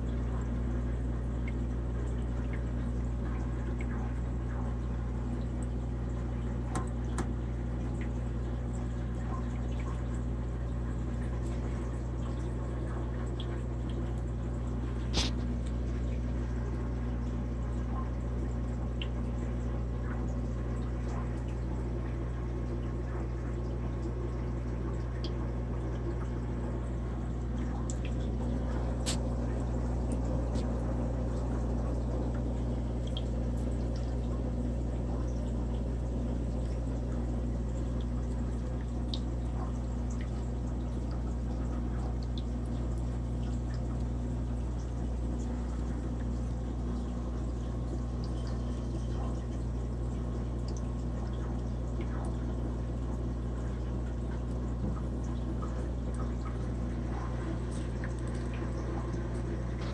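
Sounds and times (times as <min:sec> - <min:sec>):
low steady hum: 0:00.0 - 0:59.9
small water drips: 0:00.0 - 0:59.9
water trickling: 0:00.0 - 0:59.9.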